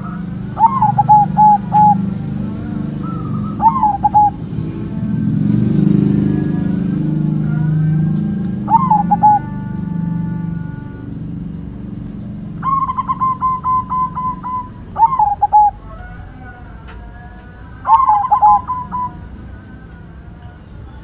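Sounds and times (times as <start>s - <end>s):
dove cooing song: 0.0s - 21.0s.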